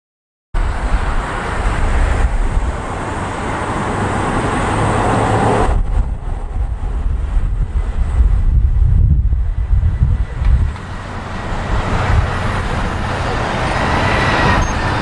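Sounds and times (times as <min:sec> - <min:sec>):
jet engine rush: 0:00.6 - 0:15.0
wind buffeting microphone: 0:00.6 - 0:15.0.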